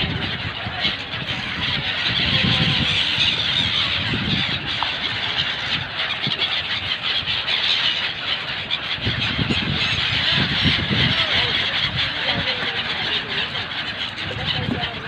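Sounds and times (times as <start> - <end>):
flock of gulls calling: 0.0 - 15.0.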